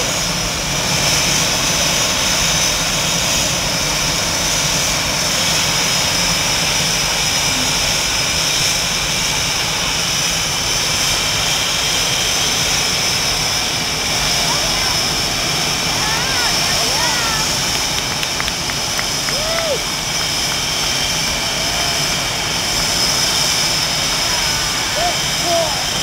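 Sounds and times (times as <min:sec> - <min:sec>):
jet engines idling: 0:00.0 - 0:26.0.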